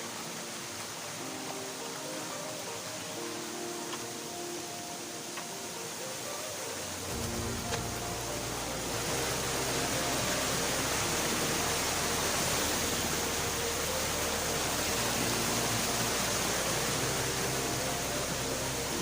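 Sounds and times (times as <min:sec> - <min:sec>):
small waterfall rushing over rock: 0:00.0 - 0:19.0.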